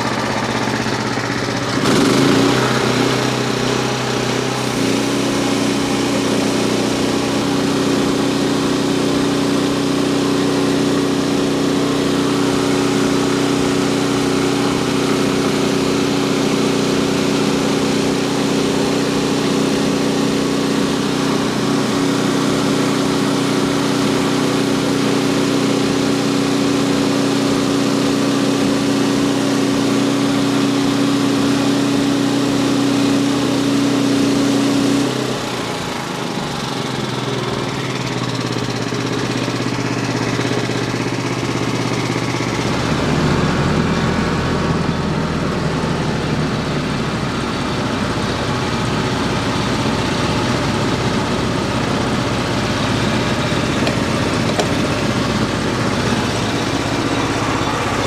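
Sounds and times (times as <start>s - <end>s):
deep tractor engine: 0.0s - 58.0s
small gasoline engine running: 0.0s - 58.0s.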